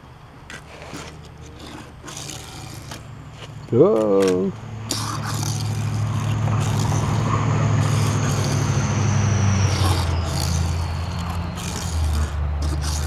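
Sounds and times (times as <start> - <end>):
thin falling whine: 0.0 - 13.0
toy car wheels rumbling: 0.4 - 13.0.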